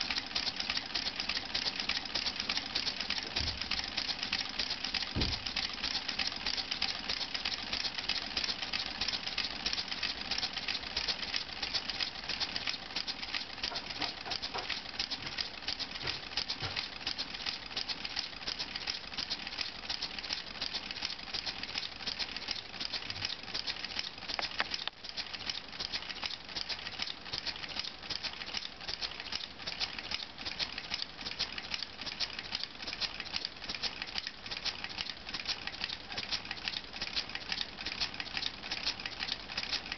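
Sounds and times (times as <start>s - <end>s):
toy pneumatic engine rattling: 0.0s - 39.9s.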